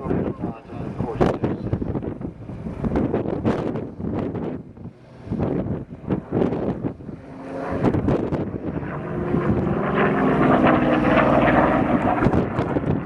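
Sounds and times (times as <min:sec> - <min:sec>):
propeller plane engine droning: 0:00.0 - 0:13.0
wind gusts on microphone: 0:00.0 - 0:13.0.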